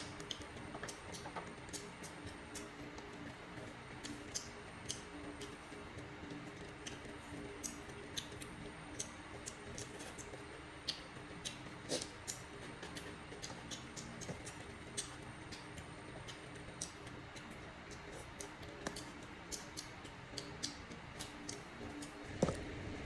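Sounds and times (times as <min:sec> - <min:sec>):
wet chewing sounds: 0:00.0 - 0:22.4
steady low hum: 0:00.0 - 0:23.0.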